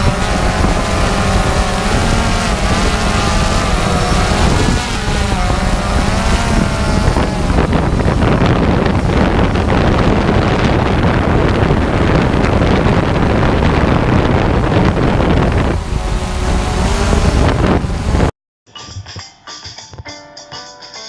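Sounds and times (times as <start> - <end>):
blizzard wind buffeting microphone: 0.0 - 18.3.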